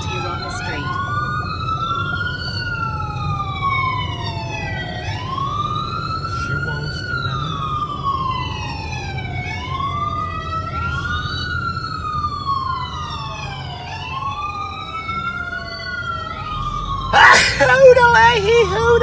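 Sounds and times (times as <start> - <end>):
emergency siren wailing: 0.0 - 19.0.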